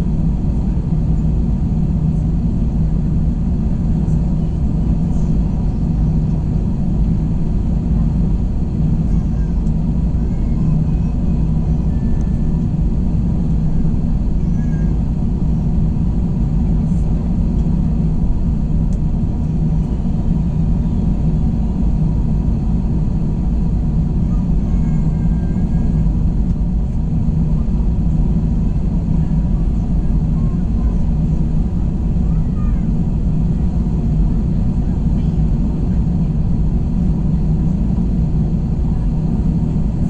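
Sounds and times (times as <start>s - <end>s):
airplane cabin engine roar: 0.0s - 40.0s.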